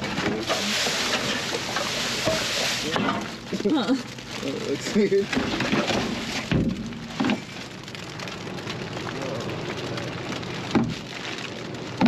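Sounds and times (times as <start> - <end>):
rain on dumpster and trash bags: 0.0 - 12.0.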